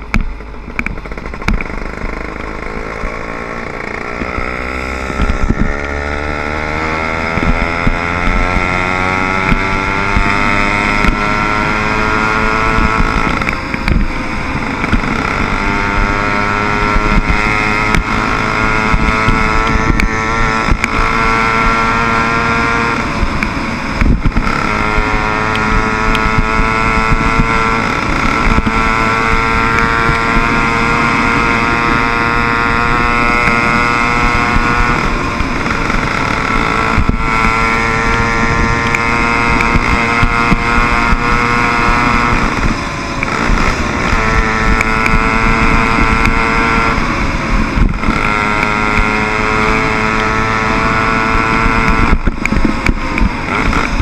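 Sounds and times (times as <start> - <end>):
small motorbike engine running: 0.0 - 54.0
wind on microphone: 0.0 - 54.0.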